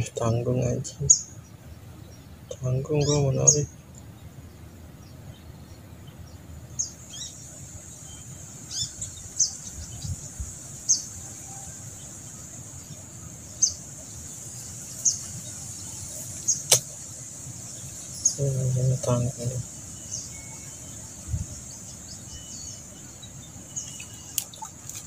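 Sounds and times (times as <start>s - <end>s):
birds chirping: 0.0s - 25.0s
steady high-pitched whine: 0.0s - 25.0s.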